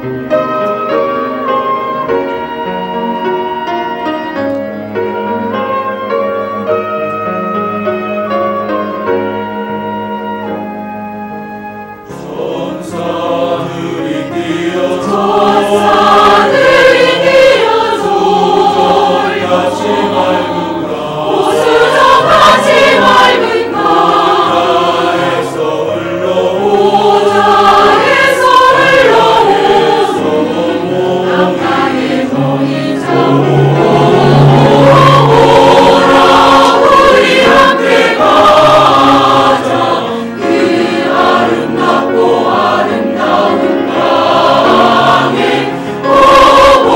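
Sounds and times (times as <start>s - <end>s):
choir singing a hymn: 0.0s - 46.9s
instrumental accompaniment: 0.0s - 46.9s.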